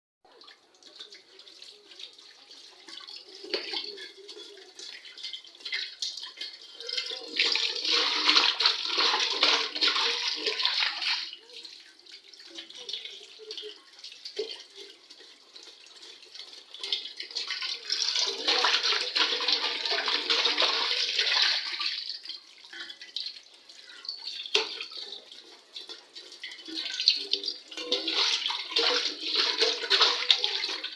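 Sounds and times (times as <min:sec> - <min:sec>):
scrubbing of utensils: 0:00.4 - 0:30.9.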